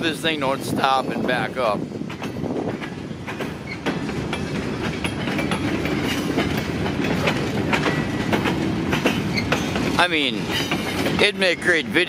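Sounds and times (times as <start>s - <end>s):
steel wheels rumbling on rail: 0.0s - 12.0s
train cars clicking and clanking: 0.0s - 12.0s.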